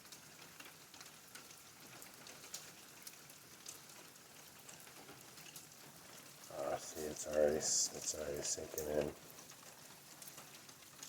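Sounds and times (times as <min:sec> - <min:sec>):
faint patter of water drops: 0:00.0 - 0:11.0.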